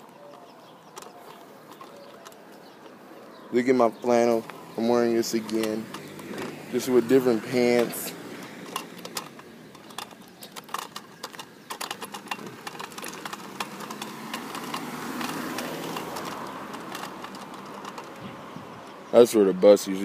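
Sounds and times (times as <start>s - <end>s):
kick scooter rattling on concrete: 0.0s - 19.2s
faint rushing traffic: 0.0s - 20.0s.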